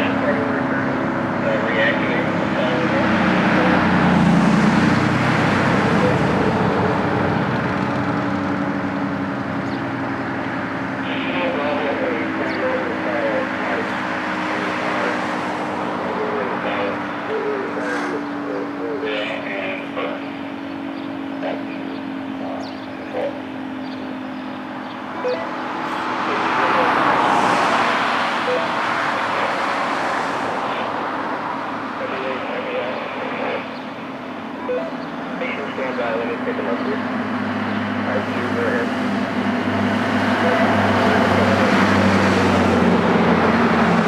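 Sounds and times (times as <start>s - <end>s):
outdoor warning siren: 0.0s - 44.0s.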